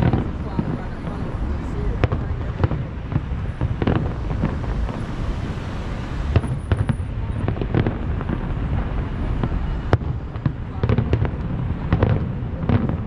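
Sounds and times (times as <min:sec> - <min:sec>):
distant fireworks booming: 0:00.0 - 0:13.0
low rumble: 0:00.0 - 0:13.0.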